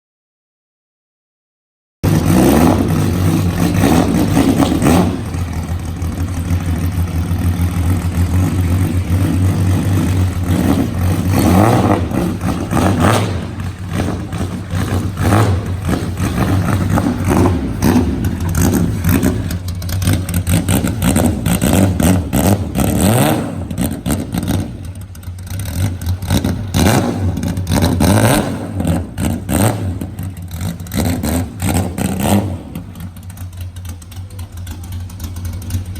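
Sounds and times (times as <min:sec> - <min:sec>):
loud car engine idling and revving: 0:02.0 - 0:35.9.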